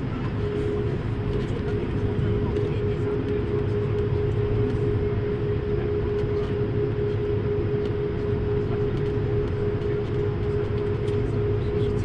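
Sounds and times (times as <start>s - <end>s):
constant whining tone: 0.0s - 12.0s
jet engine rumble: 0.0s - 12.0s.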